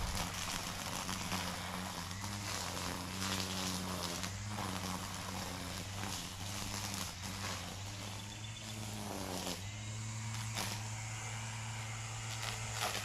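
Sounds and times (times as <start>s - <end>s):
string trimmer cutting brush: 0.0s - 13.0s.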